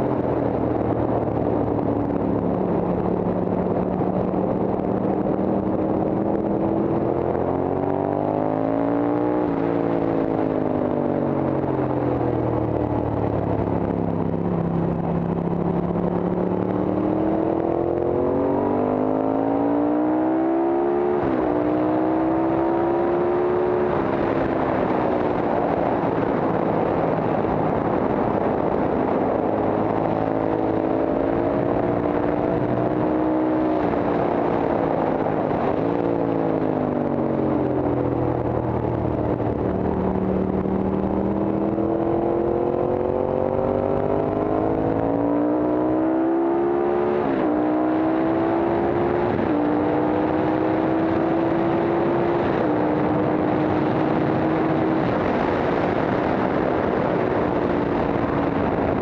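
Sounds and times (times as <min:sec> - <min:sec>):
motorcycle engine at full throttle: 0:00.0 - 0:59.0
wind rush: 0:00.0 - 0:59.0.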